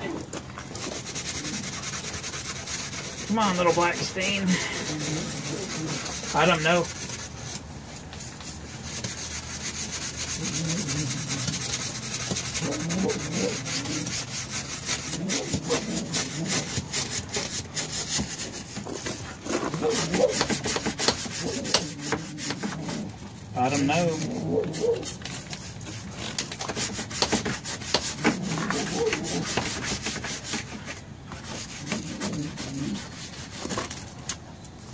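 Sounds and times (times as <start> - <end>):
brush scrubbing vinyl: 0.0 - 34.2.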